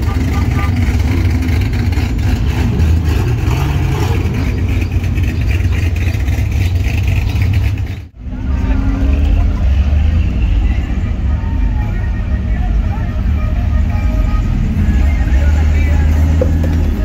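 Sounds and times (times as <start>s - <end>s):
pickup truck engines rumbling: 0.0s - 17.0s.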